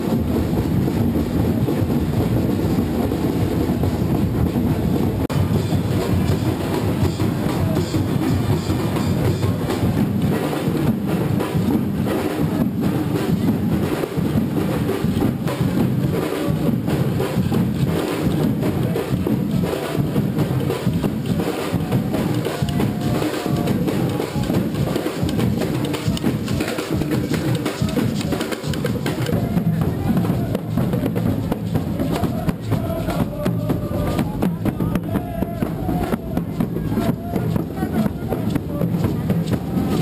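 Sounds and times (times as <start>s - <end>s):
hand drums beating a rhythm: 0.0s - 40.0s.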